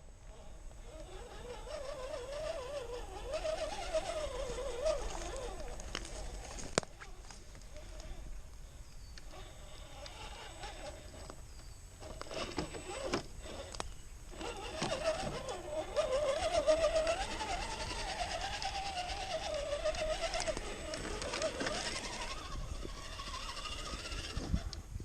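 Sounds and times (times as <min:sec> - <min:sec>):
electric motor whining: 0:00.3 - 0:08.4, 0:09.0 - 0:24.9.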